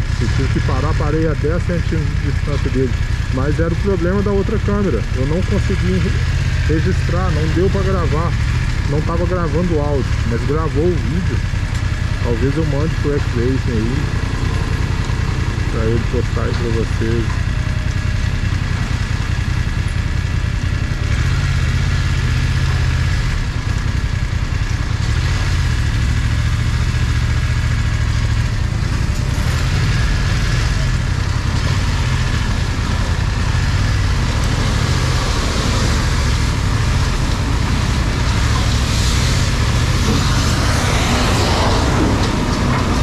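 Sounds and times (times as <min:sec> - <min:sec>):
cars on a wet street: 0:00.0 - 0:43.0
motorcycle engine at low speed: 0:00.0 - 0:43.0.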